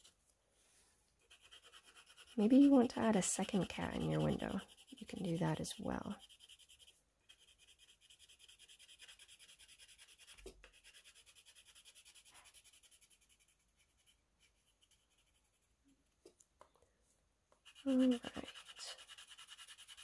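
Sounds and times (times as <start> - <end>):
pencil scratching on paper: 1.2 - 15.8, 17.6 - 20.0.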